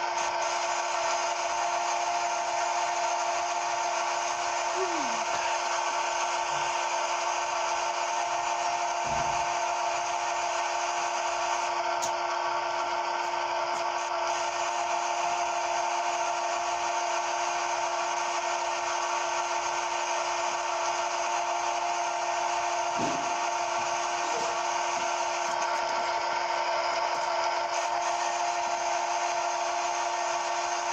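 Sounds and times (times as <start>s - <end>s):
cnc machine whining: 0.0s - 30.9s.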